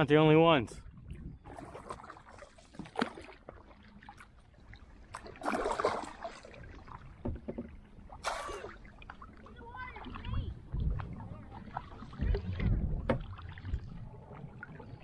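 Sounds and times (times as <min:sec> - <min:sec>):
kayak paddle splashing: 0:01.0 - 0:15.0.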